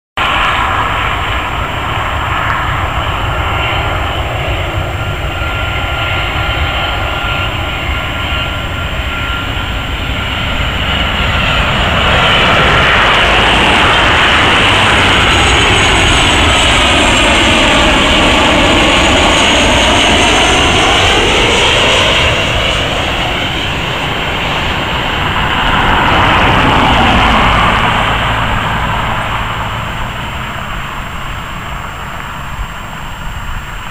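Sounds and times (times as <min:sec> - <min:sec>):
jet aircraft passing overhead: 0:00.2 - 0:33.9.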